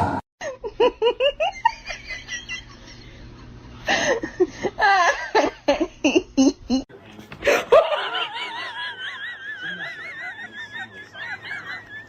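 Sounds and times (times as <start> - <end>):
person laughing: 0.4 - 6.8, 7.5 - 12.0.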